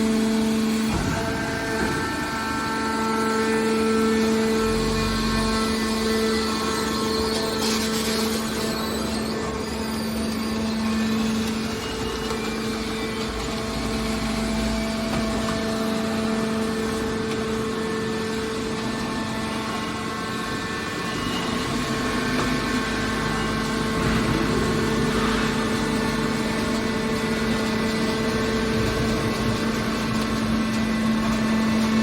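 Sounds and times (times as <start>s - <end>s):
hydraulic power unit humming: 0.0s - 32.0s.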